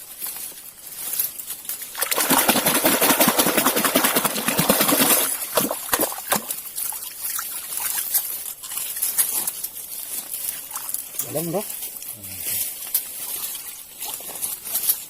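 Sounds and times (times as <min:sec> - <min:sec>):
water splashing and sloshing: 0:01.8 - 0:15.0.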